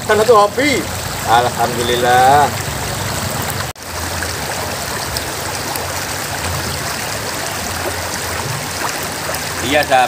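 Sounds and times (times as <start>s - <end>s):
river water rushing over rocks: 0.9s - 10.0s.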